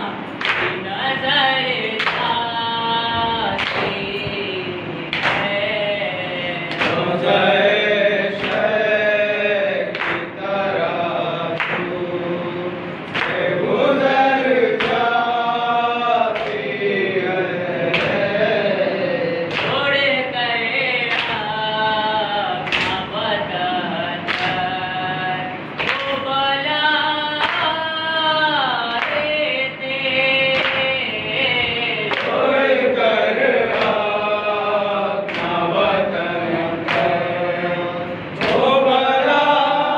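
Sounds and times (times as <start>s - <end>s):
rhythmic chest-beating thumps: 0.0s - 39.9s
group of men chanting: 0.8s - 39.9s
man chanting a lament: 0.8s - 39.9s.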